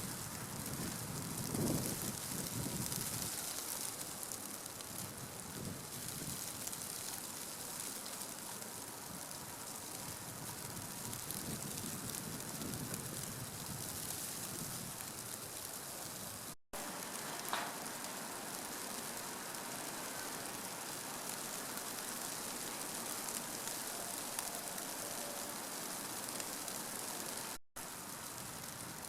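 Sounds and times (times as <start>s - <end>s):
hiss of falling rain: 0.0s - 29.0s.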